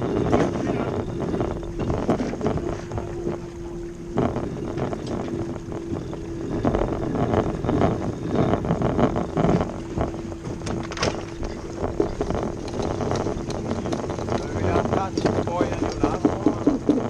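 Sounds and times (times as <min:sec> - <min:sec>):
faint hum: 0:00.0 - 0:17.0
water splashing against hull: 0:00.0 - 0:17.0
wind buffeting microphone: 0:00.0 - 0:17.0.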